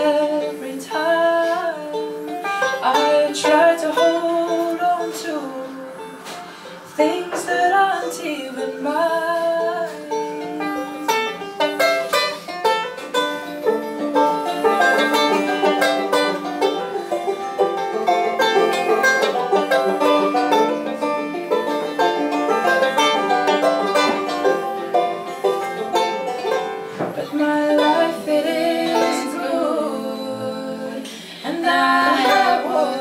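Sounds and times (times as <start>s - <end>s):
banjos picking: 0.0s - 33.0s.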